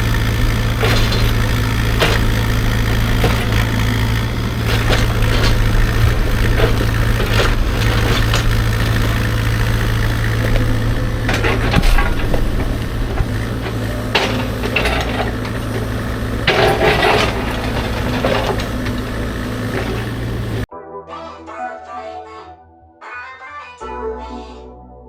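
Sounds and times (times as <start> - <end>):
bucket knocking and scraping rock: 0.0 - 20.2
excavator diesel engine: 0.0 - 20.7.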